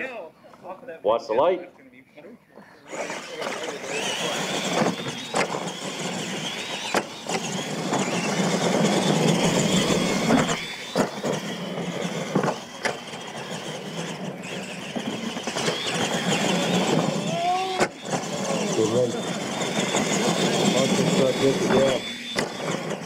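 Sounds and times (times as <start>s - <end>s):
toy truck motors whining: 2.8s - 23.0s.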